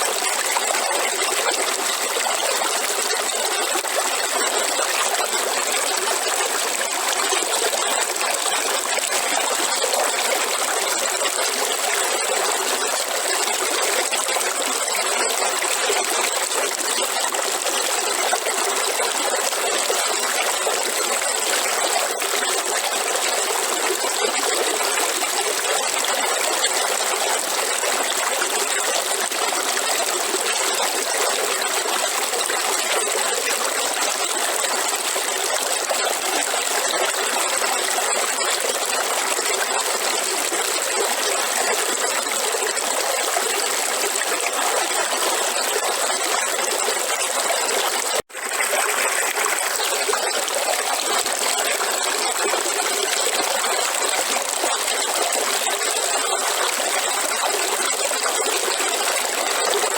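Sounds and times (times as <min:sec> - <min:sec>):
river water flowing over rocks: 0:00.0 - 0:59.9.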